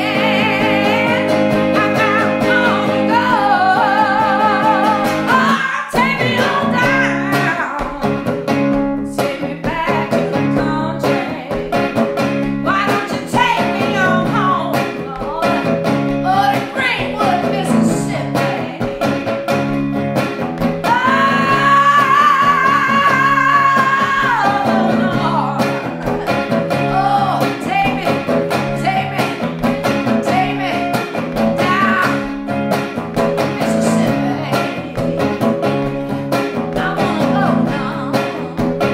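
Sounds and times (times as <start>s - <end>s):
woman singing blues: 0.0s - 19.6s, 20.6s - 38.9s
electric guitar riff: 0.0s - 38.9s.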